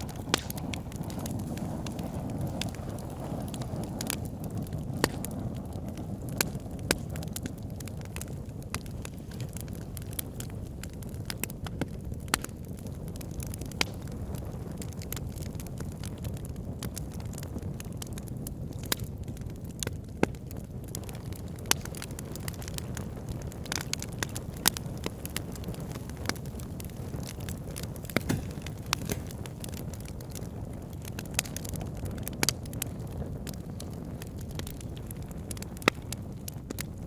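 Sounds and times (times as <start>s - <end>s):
low rumble of fire flames: 0.0s - 37.0s
wood fire crackling and popping: 0.0s - 37.0s.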